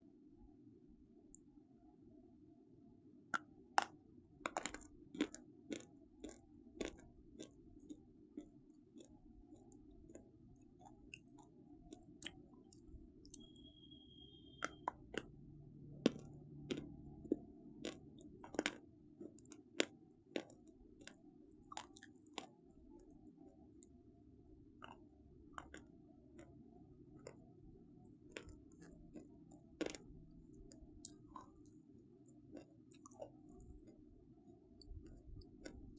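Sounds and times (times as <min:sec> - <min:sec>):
crunchy food being chewed: 0:03.4 - 0:35.9.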